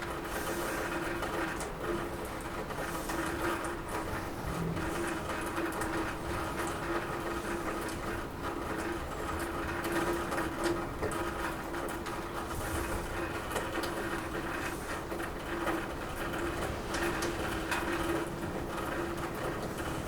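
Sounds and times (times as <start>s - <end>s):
rain on a roof: 0.0s - 20.0s.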